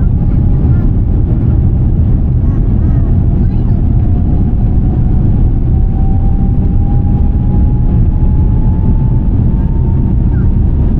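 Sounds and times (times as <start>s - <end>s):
jet airliner takeoff rumble: 0.0s - 10.9s
jet engine whine rising: 0.0s - 10.9s.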